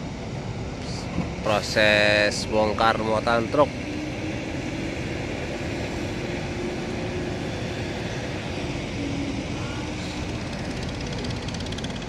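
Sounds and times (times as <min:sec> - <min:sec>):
ferry engines rumbling: 0:00.0 - 0:12.0
truck engines running: 0:00.2 - 0:12.0.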